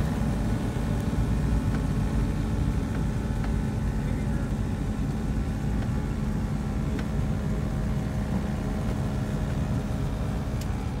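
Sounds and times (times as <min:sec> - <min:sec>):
piston engines droning: 0:00.0 - 0:11.0.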